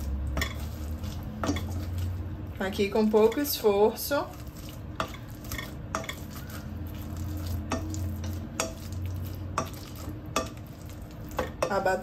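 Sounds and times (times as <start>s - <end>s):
potatoes being mashed: 0.0s - 12.0s.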